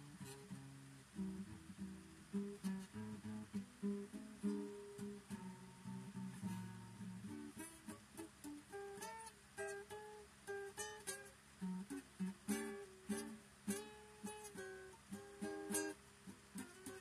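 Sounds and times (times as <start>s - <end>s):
acoustic guitar playing blues rag: 0.0s - 17.0s.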